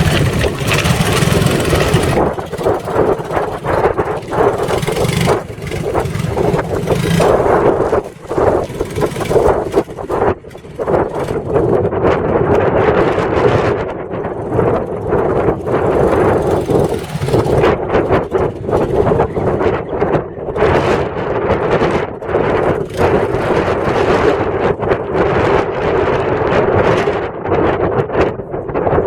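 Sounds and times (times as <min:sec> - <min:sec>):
engine revving unevenly: 0:00.0 - 0:25.0
wind on microphone: 0:00.0 - 0:29.0.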